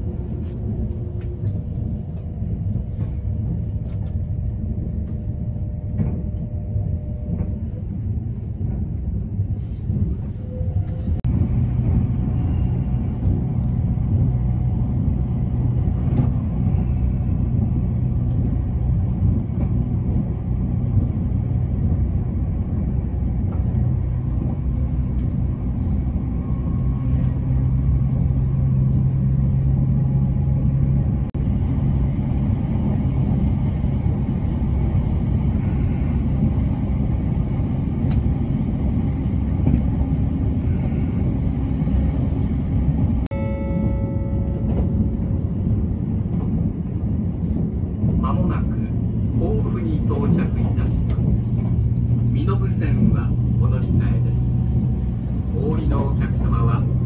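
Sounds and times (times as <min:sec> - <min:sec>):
low hum: 0:00.0 - 0:57.0
train cabin rumble: 0:00.0 - 0:57.0.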